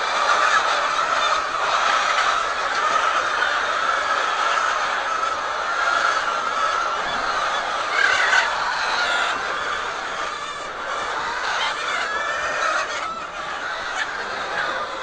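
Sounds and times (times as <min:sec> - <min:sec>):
hens calling: 0:00.0 - 0:15.0.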